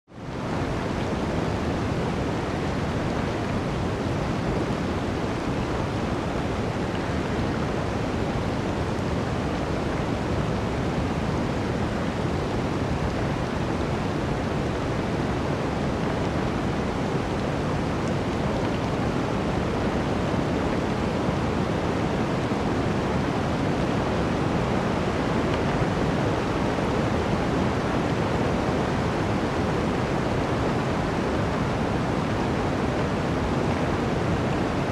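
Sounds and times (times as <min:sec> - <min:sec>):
blizzard wind through forest: 0:00.1 - 0:34.9.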